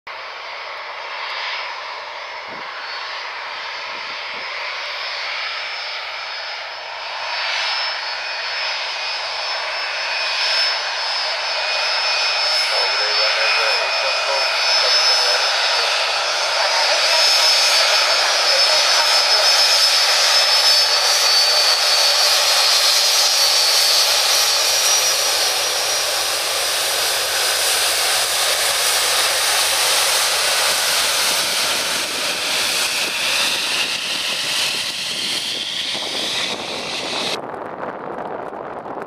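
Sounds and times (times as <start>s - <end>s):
jet engines roaring with high whine: 0.1s - 39.0s.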